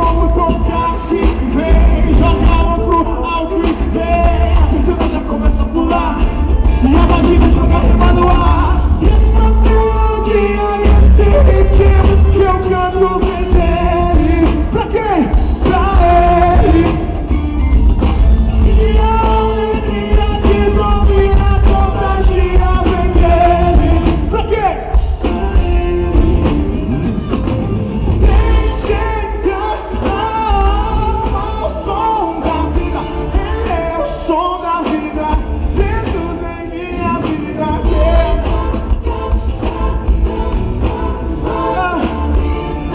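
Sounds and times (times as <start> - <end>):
person singing: 0.0 - 17.4, 18.5 - 26.3, 28.2 - 42.9
live pop-rock band: 0.0 - 42.9.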